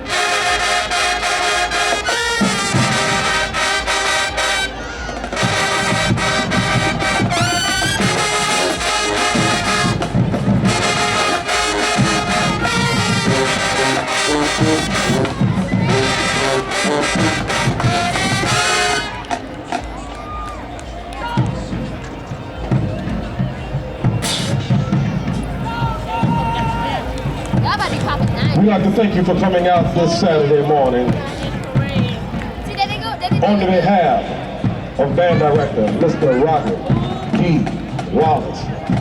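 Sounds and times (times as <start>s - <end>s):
drumline: 0.0s - 39.0s
marching band brass: 0.0s - 39.0s.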